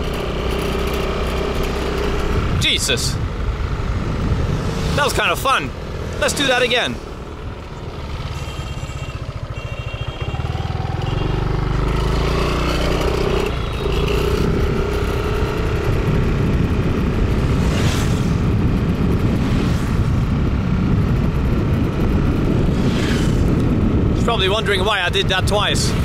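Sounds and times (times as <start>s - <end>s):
motorbike engine running: 0.0s - 26.0s
road and wind rumble: 0.0s - 26.0s.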